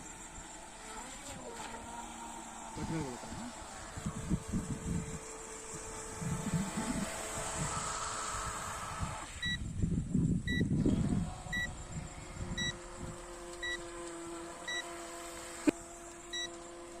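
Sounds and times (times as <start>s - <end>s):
small electric motor whine: 0.0s - 17.0s
steady low hum: 0.0s - 17.0s.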